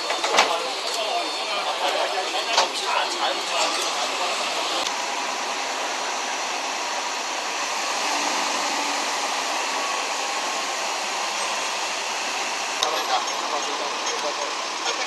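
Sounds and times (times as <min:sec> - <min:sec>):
street noise hiss: 0:00.0 - 0:15.0
tram running on rails: 0:00.0 - 0:15.0.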